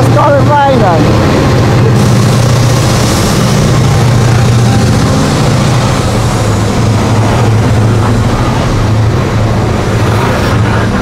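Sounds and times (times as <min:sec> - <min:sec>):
low hum: 0:00.0 - 0:11.0
steel wheels on rails: 0:00.0 - 0:11.0.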